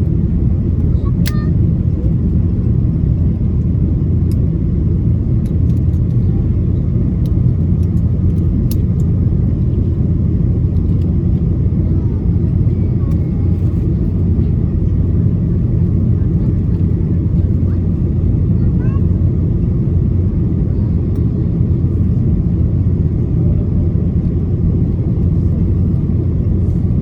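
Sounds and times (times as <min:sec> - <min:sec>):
aircraft engines droning: 0:00.0 - 0:27.0.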